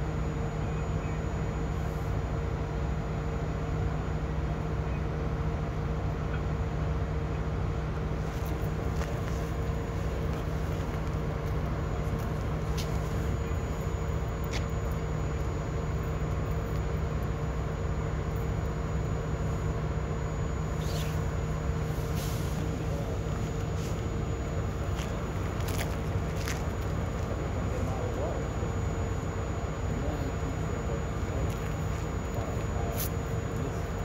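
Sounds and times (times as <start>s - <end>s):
fire engine running: 0.0s - 34.0s.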